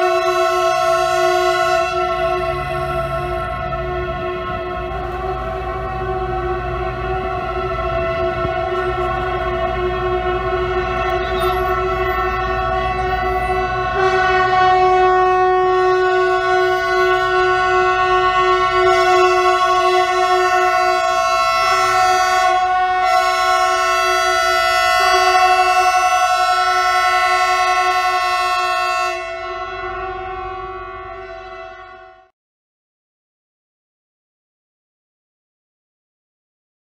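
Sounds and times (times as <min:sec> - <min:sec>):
locomotive horns blasting: 0:00.0 - 0:32.3
low train rumble: 0:00.0 - 0:32.3.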